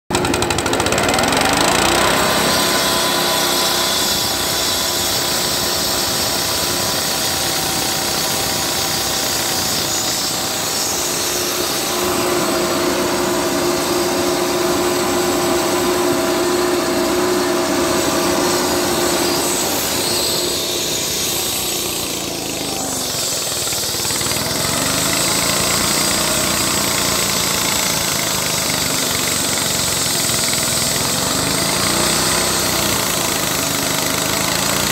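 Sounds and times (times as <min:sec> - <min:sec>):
blade cutting concrete: 0:00.1 - 0:34.9
concrete saw engine droning: 0:00.1 - 0:34.9.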